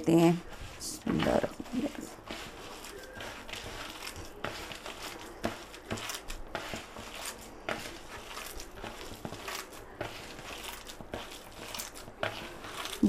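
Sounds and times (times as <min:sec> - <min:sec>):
hand kneading minced meat: 0:00.0 - 0:13.0.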